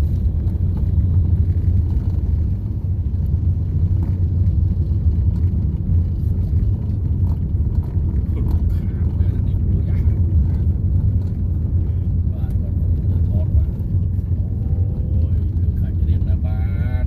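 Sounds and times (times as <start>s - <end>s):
engine rumble: 0.0s - 17.0s
road noise: 0.0s - 17.0s.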